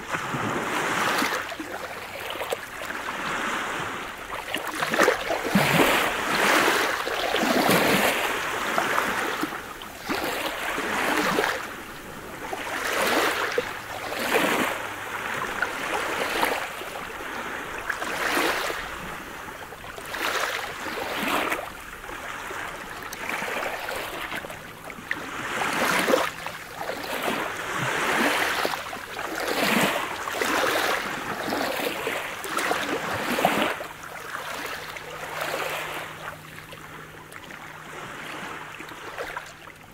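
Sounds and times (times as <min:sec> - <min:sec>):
waves lapping on pebble beach: 0:00.0 - 0:39.9.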